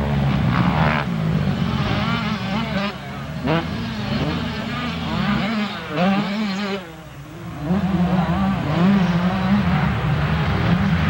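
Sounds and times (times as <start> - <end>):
motocross engines revving: 0.0 - 11.0.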